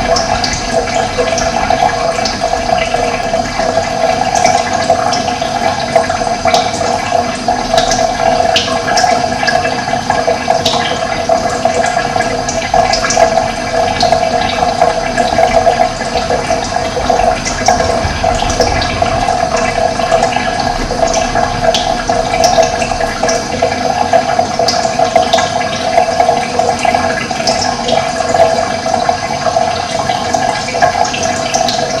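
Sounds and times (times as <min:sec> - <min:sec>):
stream rushing and burbling: 0:00.0 - 0:32.0.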